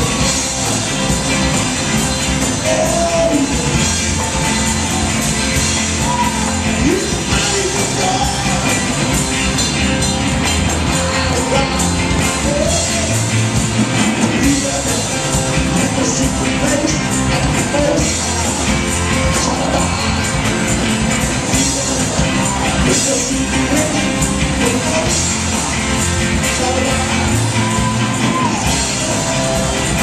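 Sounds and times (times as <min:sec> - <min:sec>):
drums: 0:00.0 - 0:30.0
electric guitars: 0:00.0 - 0:30.0
man singing: 0:02.3 - 0:09.7, 0:10.7 - 0:30.0.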